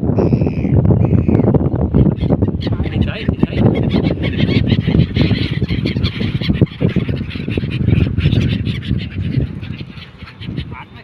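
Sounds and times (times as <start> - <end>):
birds calling and squawking: 0.0 - 11.0
wind rumble: 0.0 - 11.0.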